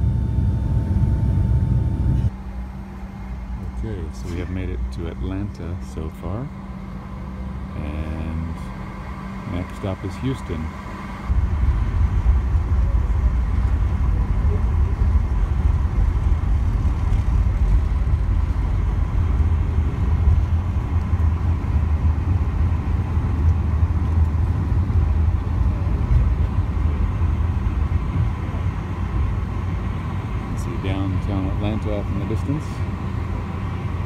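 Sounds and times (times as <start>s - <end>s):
jet engines rumbling in cabin: 0.0s - 34.0s.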